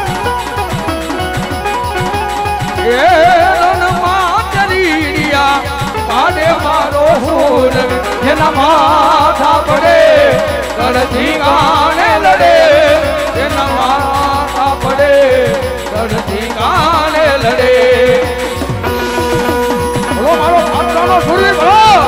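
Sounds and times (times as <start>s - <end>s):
fast hand drum strokes: 0.0s - 22.0s
person singing ornamented melody: 2.8s - 22.0s.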